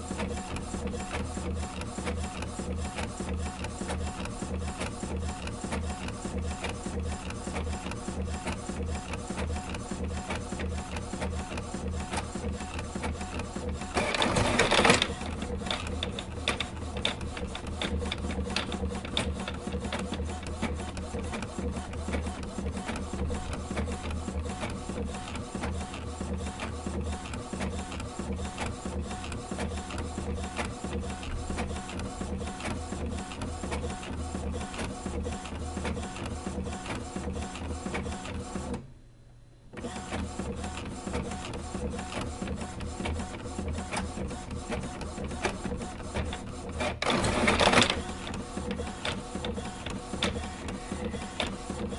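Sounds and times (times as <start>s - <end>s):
small machine whirring and clicking: 0.0s - 38.8s, 39.7s - 51.9s.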